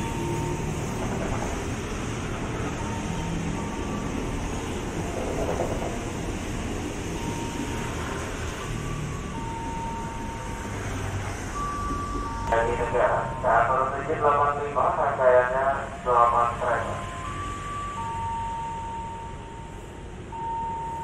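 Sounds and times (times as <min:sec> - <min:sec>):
train rumbling over rails: 0:00.0 - 0:21.0.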